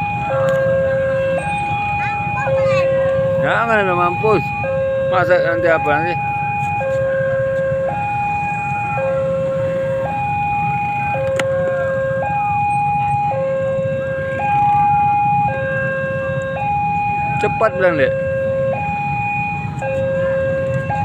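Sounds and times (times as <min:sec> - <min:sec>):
two-tone electronic alarm: 0:00.0 - 0:21.0.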